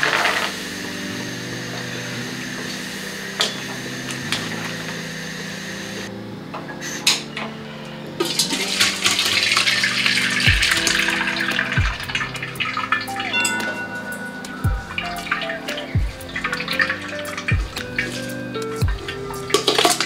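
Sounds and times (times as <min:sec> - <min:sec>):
water boiling and bubbling: 0:00.0 - 0:06.1, 0:08.2 - 0:20.0.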